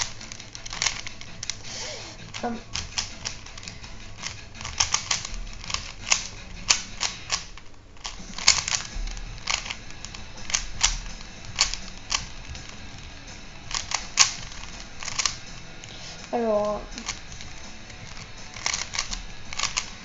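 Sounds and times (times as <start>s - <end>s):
plastic puzzle cube clicking: 0.0s - 20.0s.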